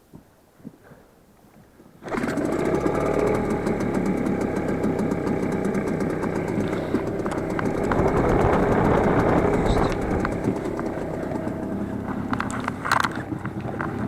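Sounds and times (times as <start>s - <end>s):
outboard motor running: 2.0s - 14.0s.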